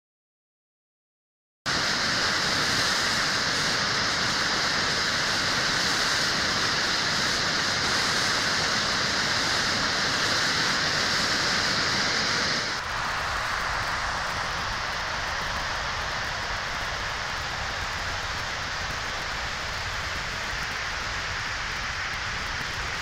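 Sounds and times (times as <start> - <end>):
whitewater rushing: 1.7 - 23.0.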